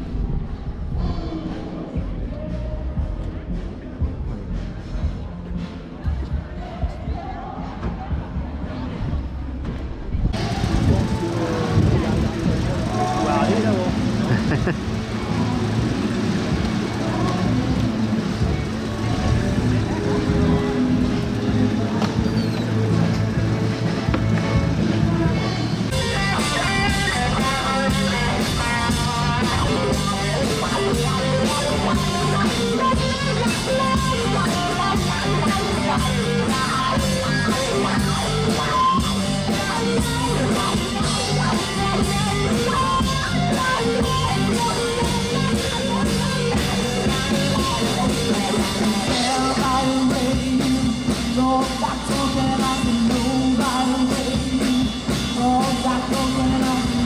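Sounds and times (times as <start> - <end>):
bass line: 0.0 - 57.0
drum kit steady beat: 1.8 - 9.2, 10.4 - 57.0
electric guitar: 10.3 - 57.0
person singing: 10.4 - 23.2, 23.9 - 57.0.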